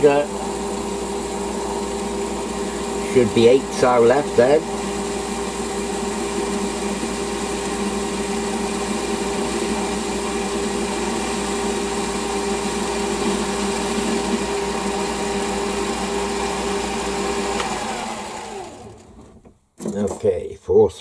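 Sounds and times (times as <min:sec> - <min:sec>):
lathe tool cutting metal: 0:00.0 - 0:19.0
metal lathe motor hum: 0:00.0 - 0:19.2.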